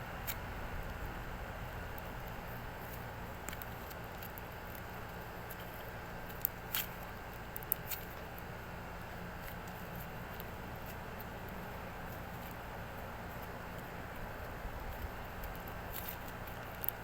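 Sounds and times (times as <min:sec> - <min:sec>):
steady background hum: 0:00.0 - 0:17.0
soft squishes: 0:02.0 - 0:17.0.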